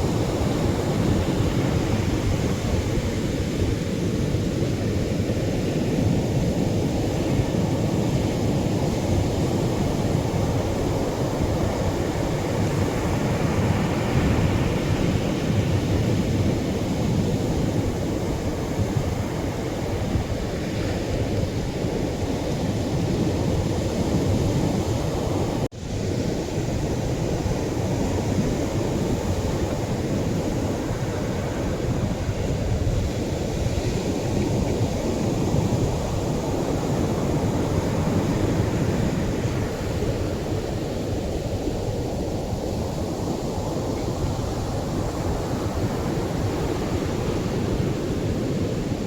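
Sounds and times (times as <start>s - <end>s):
surf breaking on a beach: 0.0s - 49.0s.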